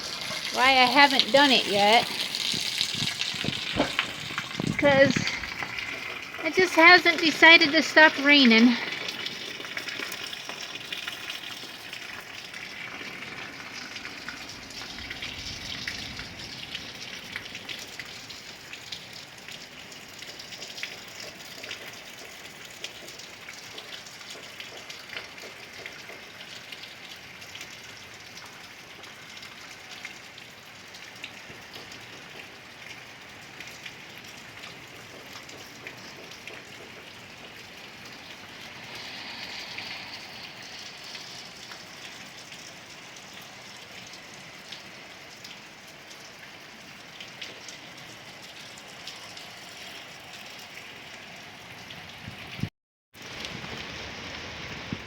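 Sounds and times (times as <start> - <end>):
rain falling: 0.0 - 55.0
raindrops hitting a surface: 0.0 - 55.0.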